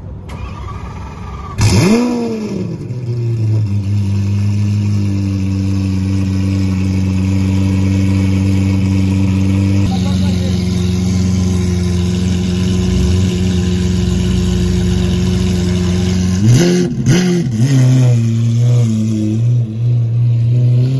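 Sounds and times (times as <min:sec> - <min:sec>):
car engine starting and idling: 0:00.0 - 0:20.9.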